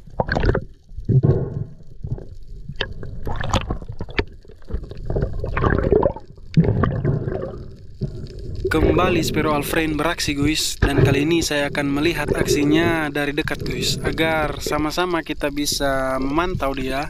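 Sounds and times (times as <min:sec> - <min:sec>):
underwater gurgling and rushing: 0:00.0 - 0:17.0.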